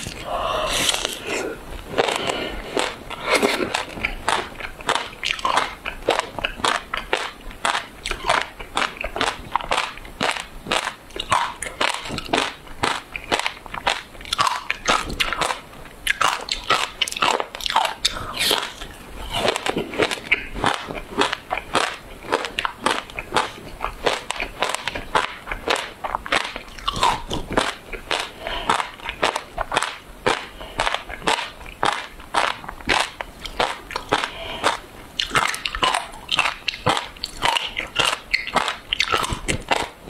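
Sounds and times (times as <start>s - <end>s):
icy crunches of chewing: 0.0s - 40.0s.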